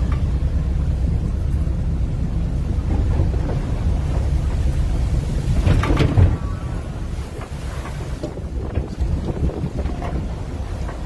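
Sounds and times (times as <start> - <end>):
boat engine rumble: 0.0 - 11.0
wind buffeting microphone: 0.0 - 11.0.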